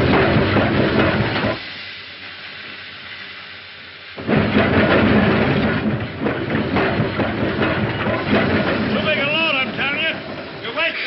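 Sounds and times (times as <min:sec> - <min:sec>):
steam locomotive rumbling: 0:00.0 - 0:11.0.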